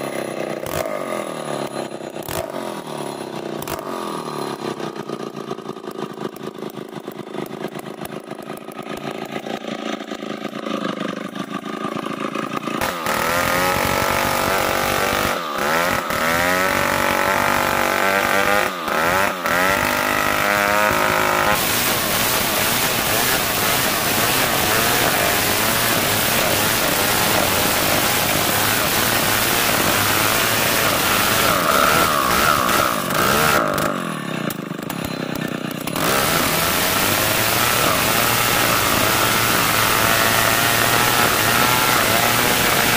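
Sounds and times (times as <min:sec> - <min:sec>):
chainsaw cutting timber: 0:00.0 - 0:42.9.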